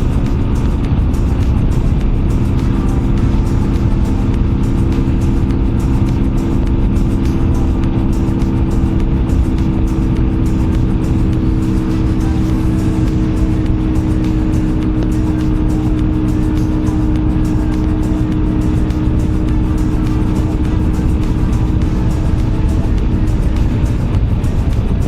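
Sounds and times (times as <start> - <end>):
motorcycle engine cruising: 0.0 - 25.0
wind rumble on microphone: 0.0 - 25.0.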